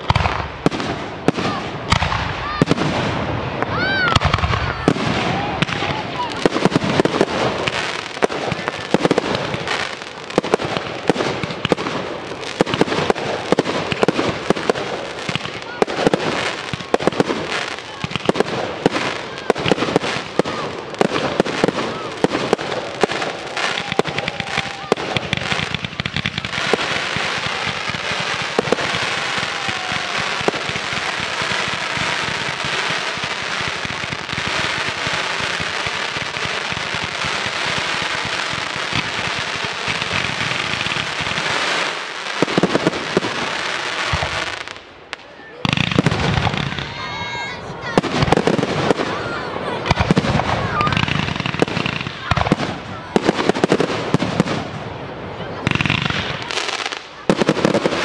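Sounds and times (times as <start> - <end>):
fireworks crackling hiss: 0.0 - 55.0
fireworks bangs: 0.0 - 58.0
fireworks cracking and popping: 0.0 - 58.0.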